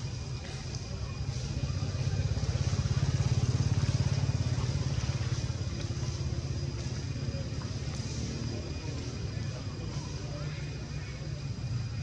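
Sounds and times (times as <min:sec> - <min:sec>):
low pulsing engine rumble: 0:00.0 - 0:12.0.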